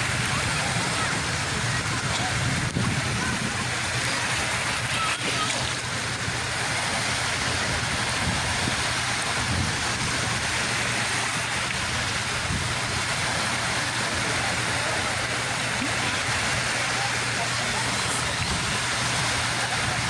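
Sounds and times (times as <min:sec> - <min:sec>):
sea surf washing on shore: 0:00.0 - 0:20.0.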